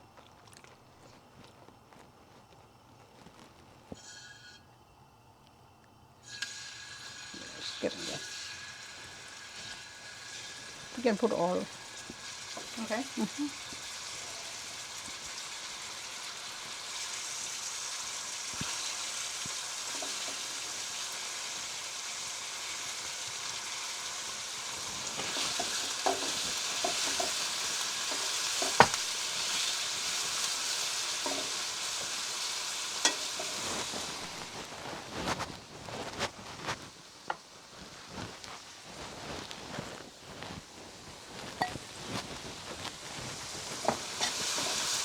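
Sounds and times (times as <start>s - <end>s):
chicken sizzling in a wok: 3.4s - 45.0s.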